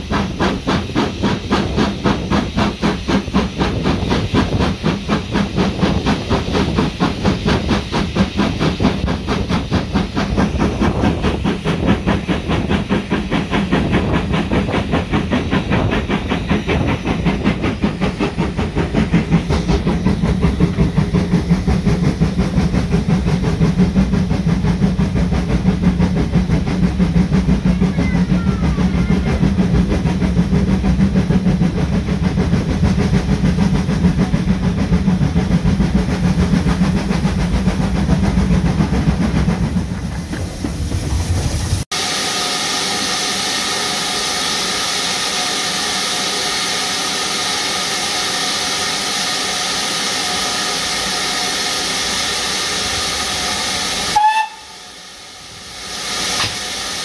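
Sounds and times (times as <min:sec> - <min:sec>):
train running with regular beat: 0:00.0 - 0:57.0.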